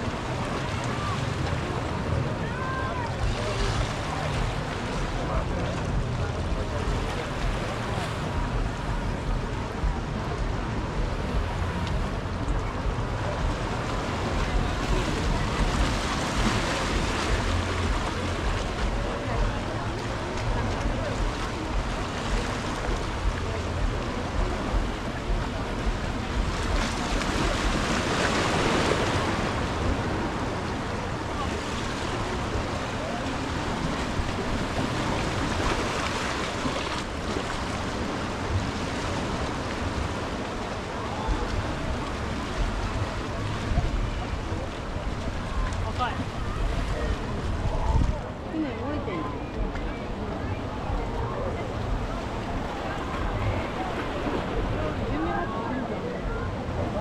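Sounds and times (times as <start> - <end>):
surf washing onto beach: 0.0 - 57.0
wind rumbling on microphone: 0.0 - 57.0.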